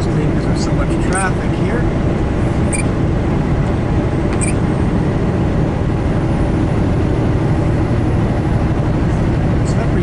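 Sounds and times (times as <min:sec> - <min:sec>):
truck engine and tyre noise: 0:00.0 - 0:10.0.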